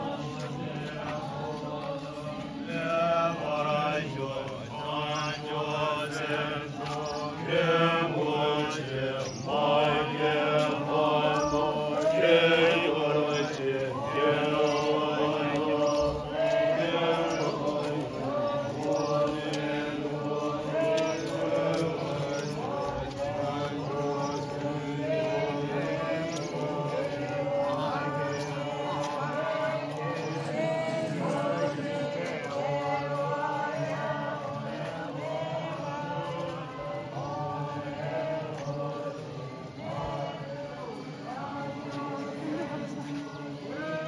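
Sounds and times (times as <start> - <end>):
group chanting a prayer: 0.0 - 44.0.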